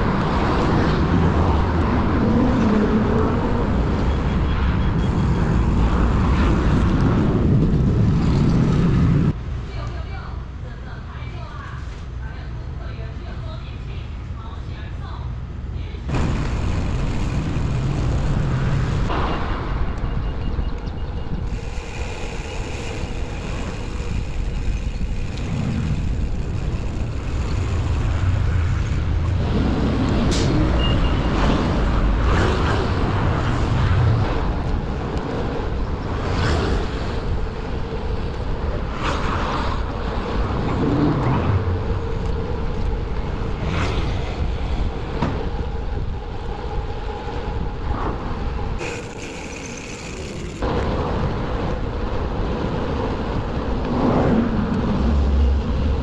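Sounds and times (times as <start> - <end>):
cars and trucks passing: 0.0 - 9.6, 16.1 - 56.0
wind rumble on microphone: 0.0 - 10.7, 11.5 - 49.6, 50.4 - 56.0.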